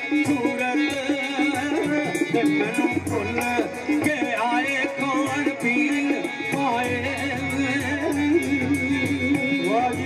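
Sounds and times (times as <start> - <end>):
hand percussion beat: 0.0 - 10.0
harmonium chords: 0.0 - 10.0.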